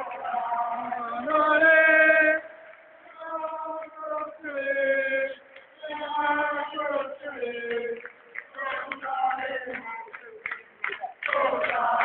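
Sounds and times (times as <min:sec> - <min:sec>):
crowd chanting: 0:00.0 - 0:12.0.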